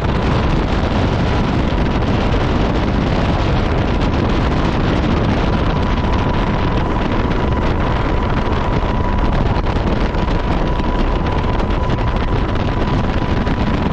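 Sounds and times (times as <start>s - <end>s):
wind rushing over microphone: 0.0s - 13.9s.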